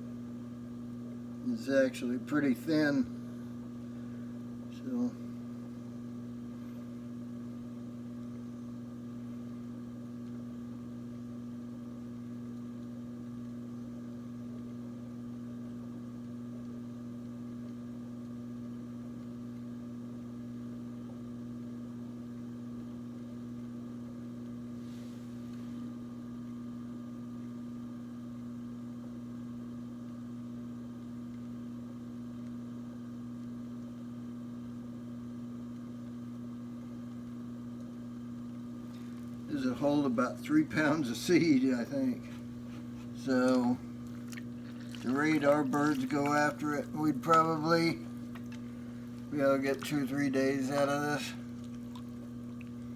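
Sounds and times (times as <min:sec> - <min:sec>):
electric potter's wheel humming: 0:00.0 - 0:52.9.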